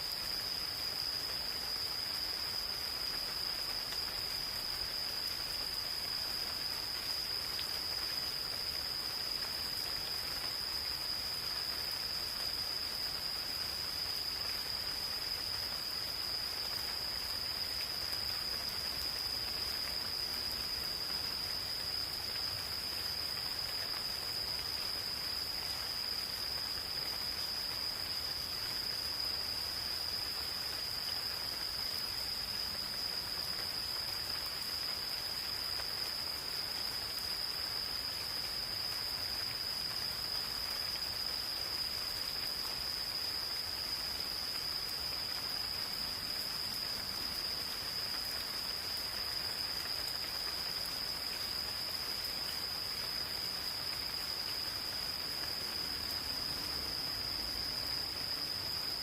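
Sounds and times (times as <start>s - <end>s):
gentle rain in forest: 0.0s - 59.0s.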